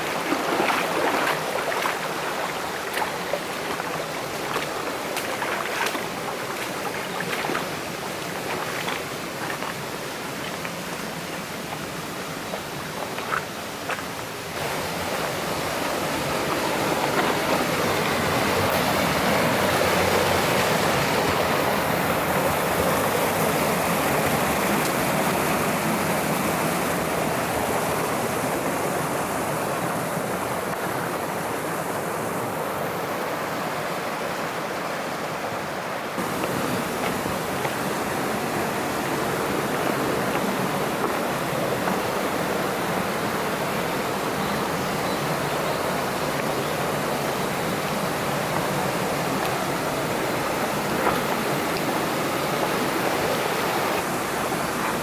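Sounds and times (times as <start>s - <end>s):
stream water rushing over rocks: 0.0s - 55.0s.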